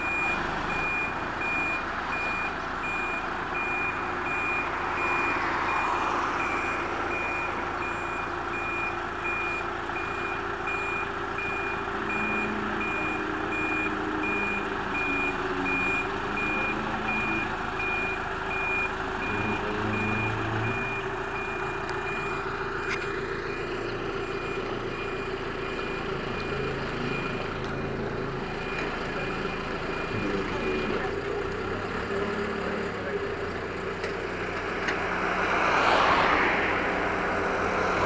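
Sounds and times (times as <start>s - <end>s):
reversing alarm beeping: 0.0s - 31.0s
diesel engine running: 0.0s - 38.0s.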